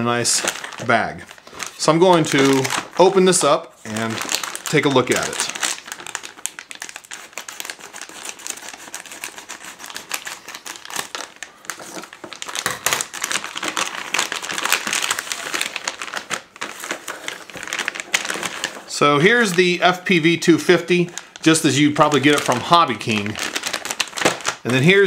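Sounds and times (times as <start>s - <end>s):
plastic bag crinkling: 0.0s - 25.0s.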